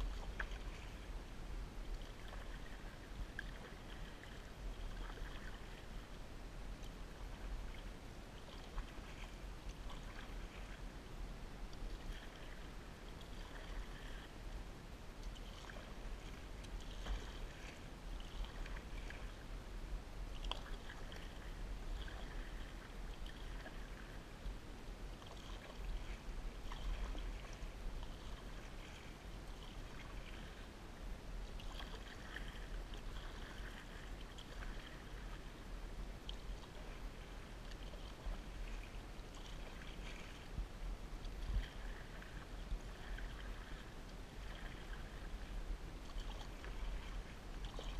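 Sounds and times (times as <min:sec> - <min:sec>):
constant low rumble: 0:00.0 - 0:47.9
paddle swishing through water: 0:00.0 - 0:47.9
water moving along hull: 0:00.0 - 0:47.9.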